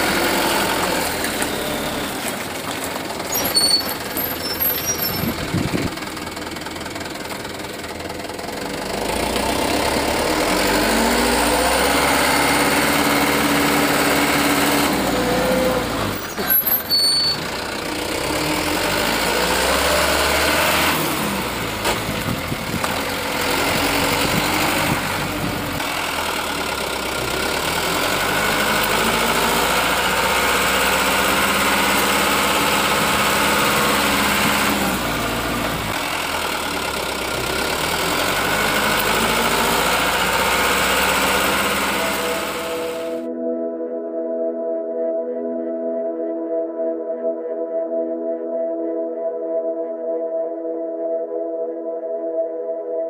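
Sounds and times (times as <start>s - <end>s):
truck engine revving: 0.0s - 43.3s.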